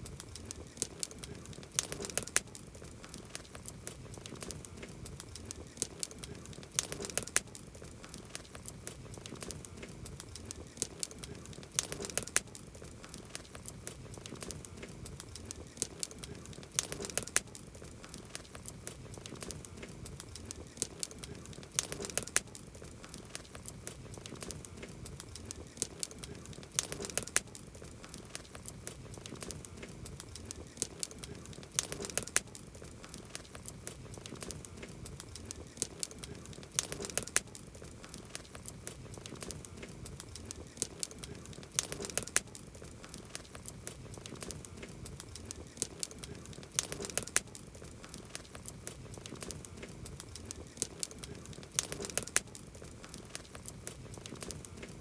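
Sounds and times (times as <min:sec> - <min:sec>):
campfire crackling and popping: 0:00.0 - 0:55.0
soft hiss: 0:00.0 - 0:55.0.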